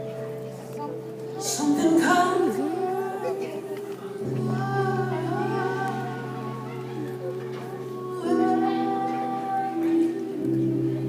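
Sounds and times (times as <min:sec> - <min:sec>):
keyboard chords: 0:00.0 - 0:11.0
woman singing wordless run: 0:01.4 - 0:11.0.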